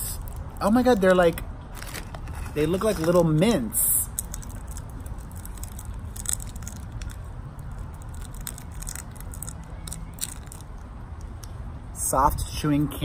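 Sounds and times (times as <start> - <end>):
low background rumble: 0.0 - 12.6
plastic candy wrapper crinkling: 0.2 - 10.9.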